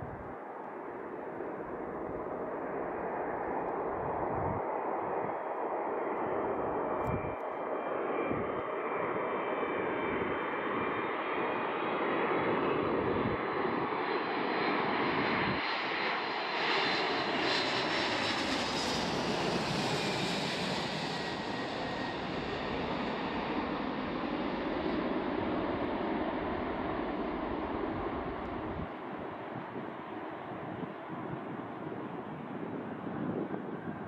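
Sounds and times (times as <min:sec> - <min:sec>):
airliner jet engines passing overhead: 0:00.0 - 0:34.0.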